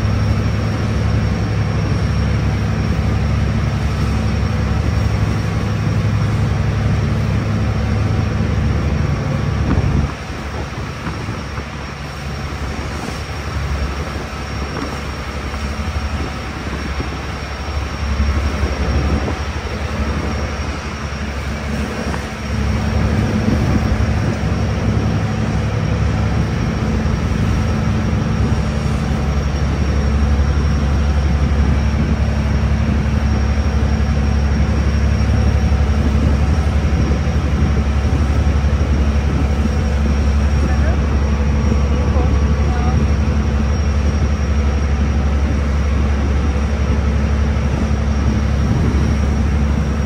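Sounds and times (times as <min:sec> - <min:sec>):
ship engines droning: 0:00.0 - 0:50.0.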